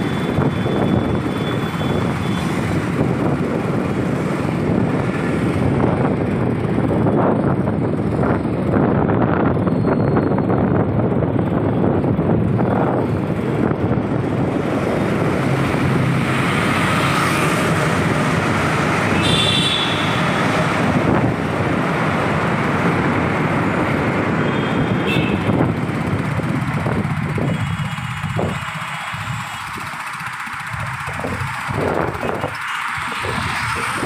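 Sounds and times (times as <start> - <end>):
road and traffic noise: 0.0 - 34.0
vehicles passing: 0.0 - 34.0.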